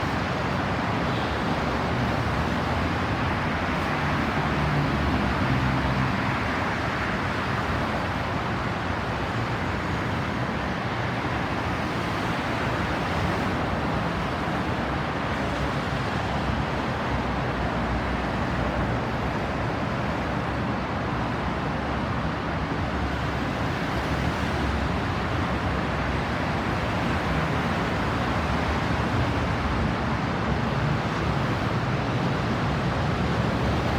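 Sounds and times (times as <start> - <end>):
road traffic noise: 0.0 - 33.9.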